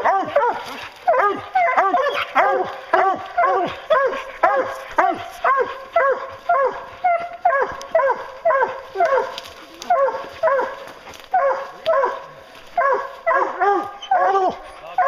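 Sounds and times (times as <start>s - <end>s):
hounds barking: 0.0s - 15.0s.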